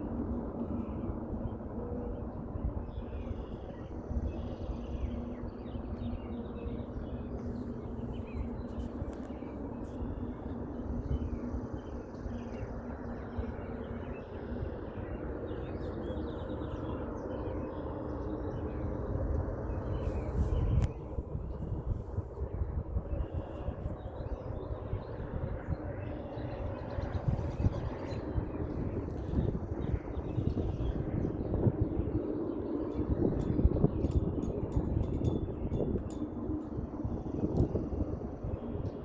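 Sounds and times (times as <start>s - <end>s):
low droning hum: 0.0s - 39.0s.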